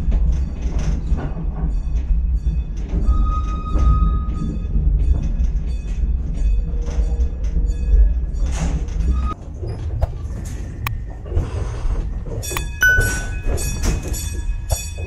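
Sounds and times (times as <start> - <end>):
clanks and knocks: 0.0 - 15.0
steam tram rumbling: 0.0 - 15.0.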